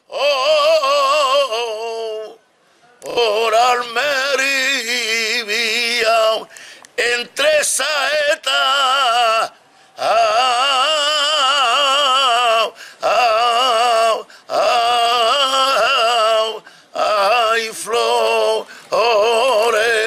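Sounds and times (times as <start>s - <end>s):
man singing unaccompanied: 0.0s - 2.4s, 3.0s - 20.0s.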